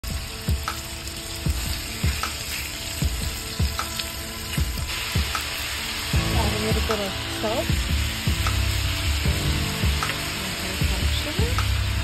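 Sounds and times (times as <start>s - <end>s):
background music with thumping beat: 0.0s - 12.0s
chicken sizzling in hot oil: 0.0s - 12.0s.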